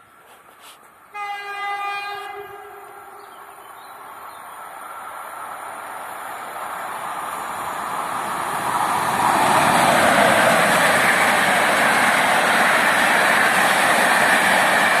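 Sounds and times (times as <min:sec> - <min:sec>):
train wheels rumbling on rails: 0:00.1 - 0:15.0.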